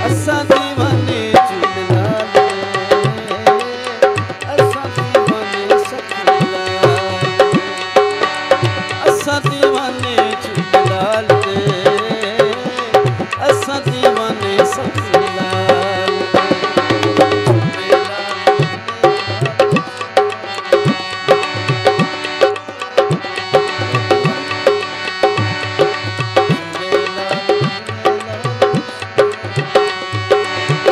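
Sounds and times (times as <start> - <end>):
hand drum beating: 0.0 - 30.9
harmonium sustained chords: 0.0 - 30.9.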